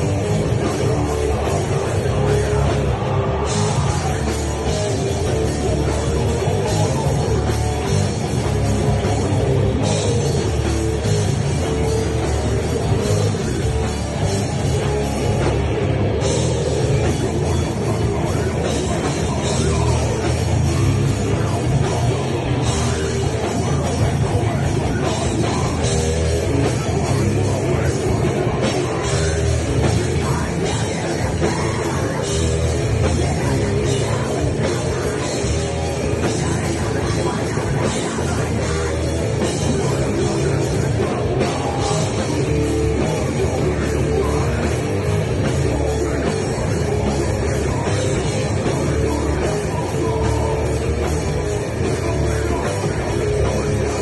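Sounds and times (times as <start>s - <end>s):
drum kit: 0.0s - 54.0s
heavy metal band playing live: 0.0s - 54.0s.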